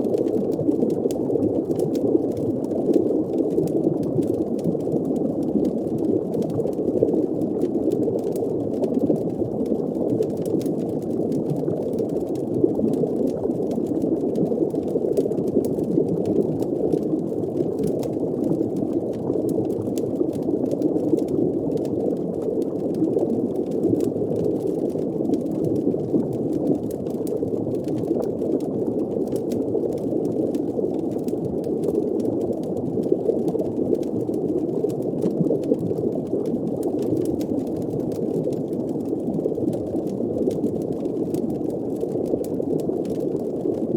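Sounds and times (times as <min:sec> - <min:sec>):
underwater bubbling rush: 0:00.0 - 0:43.9.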